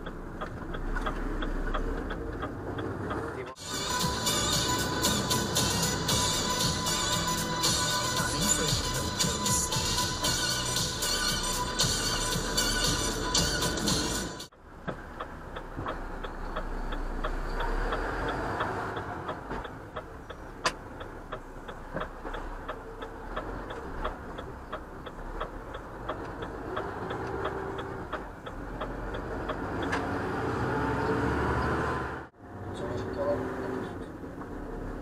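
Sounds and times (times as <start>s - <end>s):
turn signal clicking: 0.0s - 3.6s, 4.7s - 30.3s
engine and road noise: 0.0s - 35.0s.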